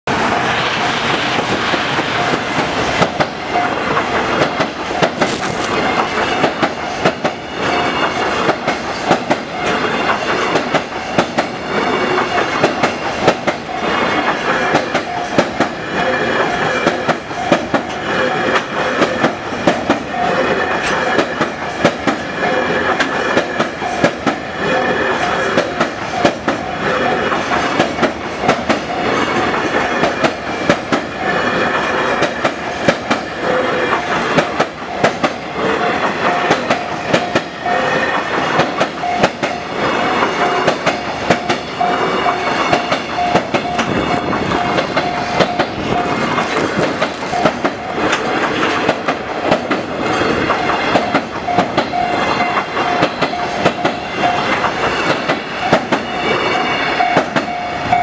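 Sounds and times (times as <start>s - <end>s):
wheels clattering over rail joints: 0.1s - 57.6s
freight train rumbling over bridge: 0.1s - 58.0s.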